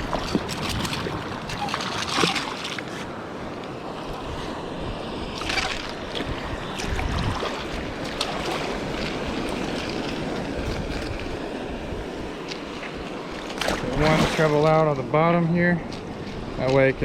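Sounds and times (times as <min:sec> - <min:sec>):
wind on microphone: 0:00.0 - 0:14.9
ocean surf washing against rocks: 0:00.0 - 0:17.0.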